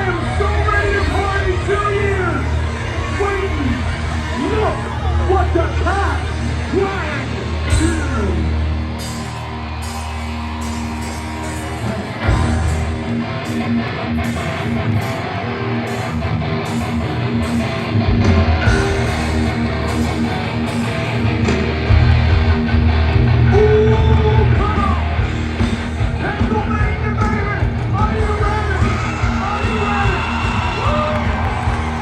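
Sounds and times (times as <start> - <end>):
hard rock band playing live: 0.0 - 32.0.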